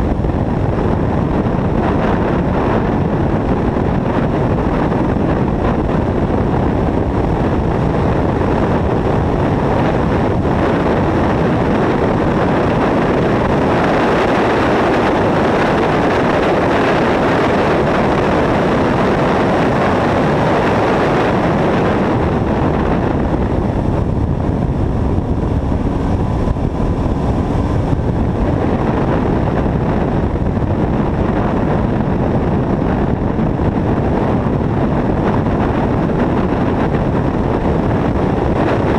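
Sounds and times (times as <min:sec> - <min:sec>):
car running noise: 0:00.0 - 0:38.9
wind buffeting microphone: 0:00.0 - 0:38.9.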